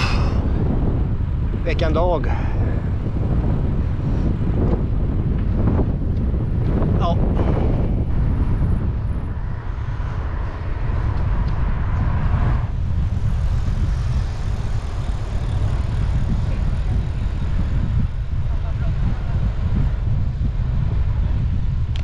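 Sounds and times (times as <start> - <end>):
rushing air: 0.0 - 22.0
wind buffeting microphone: 0.0 - 22.0.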